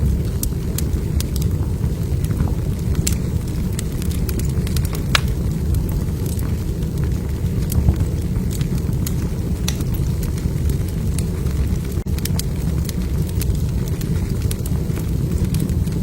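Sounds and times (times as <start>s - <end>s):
log fire crackling and popping: 0.0s - 16.0s
low fire rumble: 0.0s - 16.0s.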